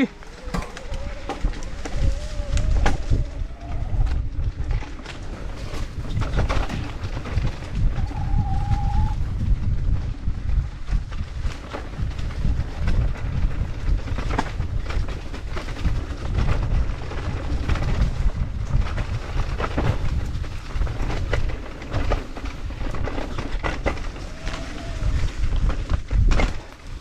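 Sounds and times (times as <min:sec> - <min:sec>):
bike rattling and knocking: 0:00.0 - 0:27.0
wind rumble on microphone: 0:00.0 - 0:27.0.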